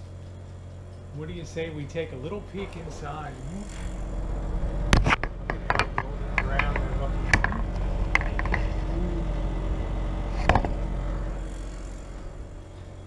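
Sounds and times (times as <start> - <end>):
oven fan humming: 0.0 - 13.0.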